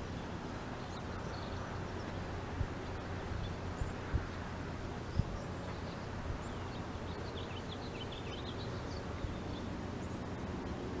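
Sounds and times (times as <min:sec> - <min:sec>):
low outdoor rumble: 0:00.0 - 0:11.0
songbirds chirping: 0:00.0 - 0:11.0.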